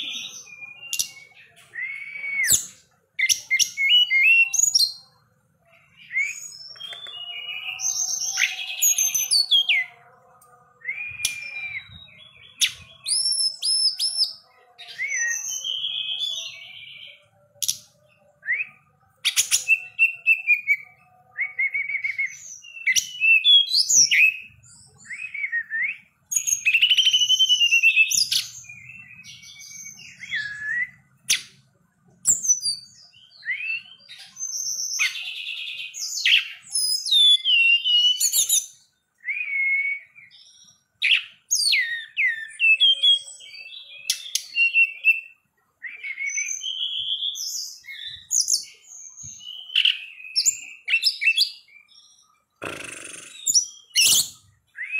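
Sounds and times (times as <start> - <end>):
bird singing whistled phrases: 0.0 - 5.0, 6.0 - 9.9, 10.8 - 17.8, 18.4 - 31.5, 32.2 - 54.9.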